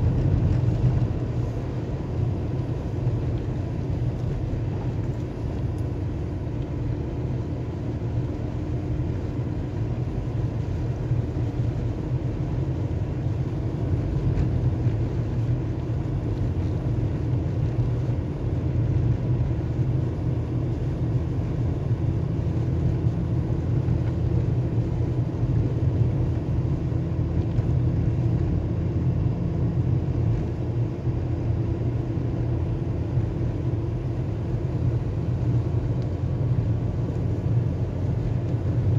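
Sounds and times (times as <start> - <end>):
engine and tyre rumble in car cabin: 0.0 - 38.9.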